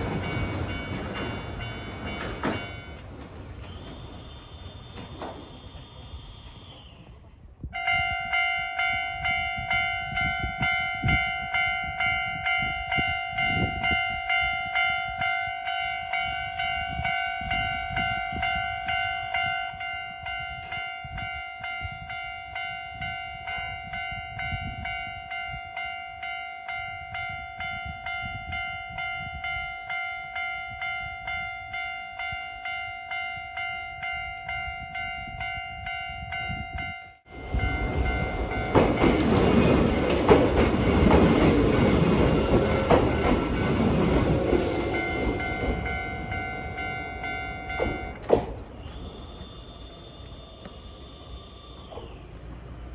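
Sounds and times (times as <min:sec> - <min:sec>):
level-crossing warning bell: 0:00.0 - 0:07.1, 0:07.7 - 0:52.9.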